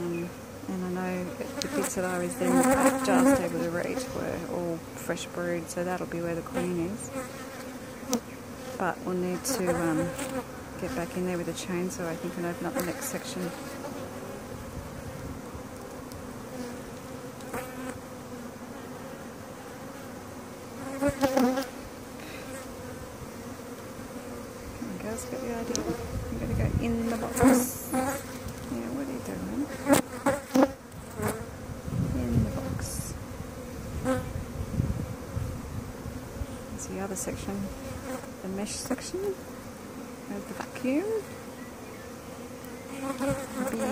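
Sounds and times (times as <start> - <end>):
bees humming: 0.0 - 43.9.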